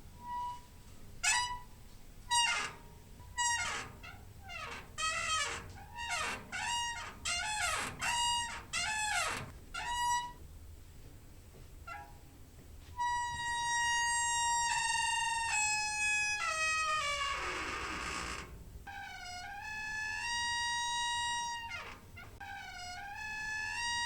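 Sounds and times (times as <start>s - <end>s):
door hinge squeaking: 0.2s - 10.4s, 11.9s - 12.3s, 13.0s - 24.0s.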